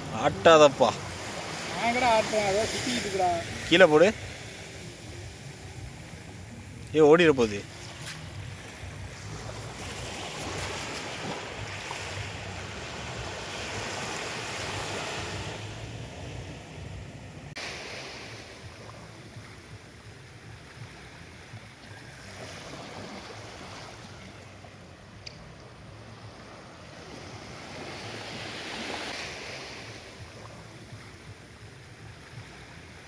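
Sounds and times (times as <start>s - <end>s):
sea waves washing on shore: 0.0s - 33.0s.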